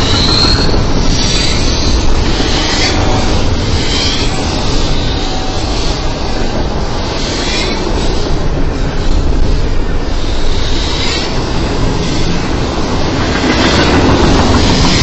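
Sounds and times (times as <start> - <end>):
steel wheels rumbling on rail: 0.0 - 15.0.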